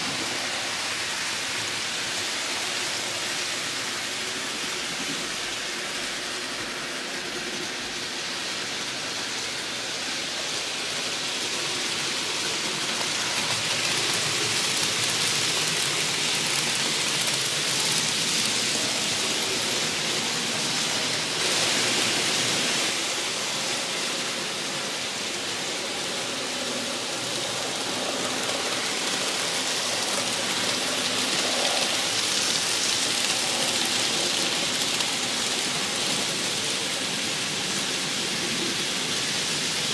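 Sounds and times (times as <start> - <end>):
model train wheels rattling on rails: 0.0 - 39.9.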